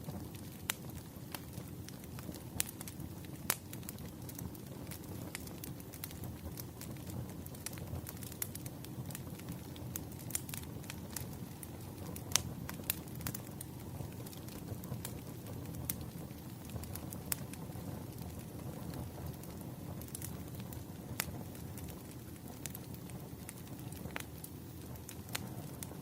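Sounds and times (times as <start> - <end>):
campfire crackling and popping: 0.0 - 26.0
low rumble of flames: 0.0 - 26.0.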